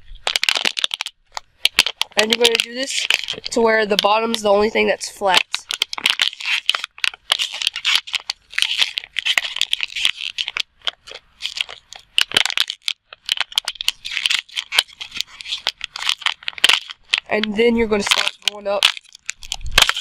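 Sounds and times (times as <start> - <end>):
plastic bottle crinkling: 0.0 - 20.0.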